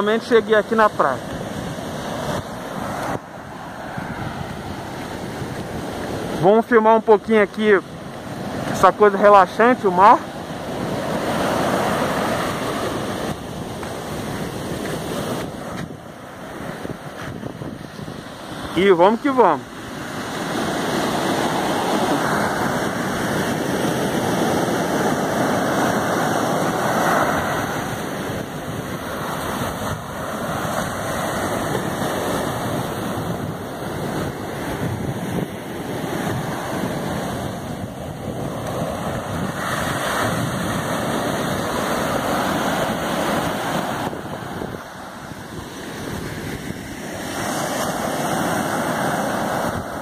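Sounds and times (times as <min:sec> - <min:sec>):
ocean waves breaking on beach: 0:00.0 - 0:50.0
wind buffeting microphone: 0:00.9 - 0:06.7, 0:09.8 - 0:50.0.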